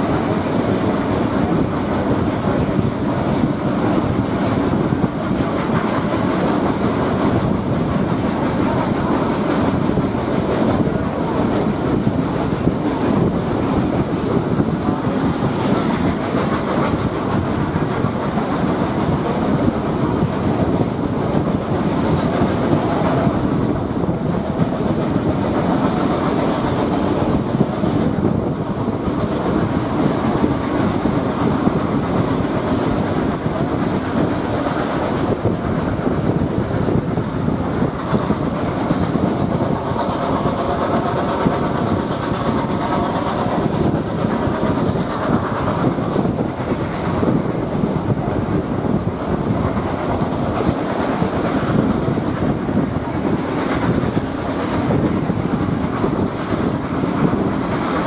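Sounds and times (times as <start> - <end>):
steam locomotive exhaust: 0.0 - 58.0.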